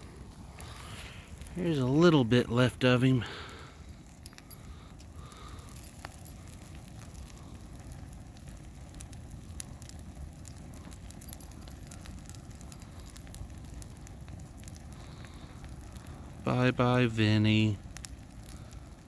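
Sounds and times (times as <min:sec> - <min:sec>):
small fire crackling and popping: 0:00.0 - 0:19.0.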